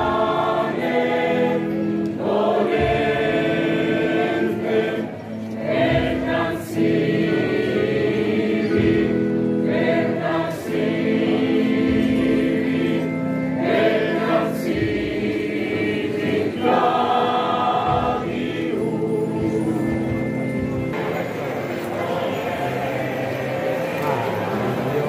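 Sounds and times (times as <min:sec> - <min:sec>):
male choir singing: 0:00.0 - 0:20.3, 0:20.9 - 0:25.0.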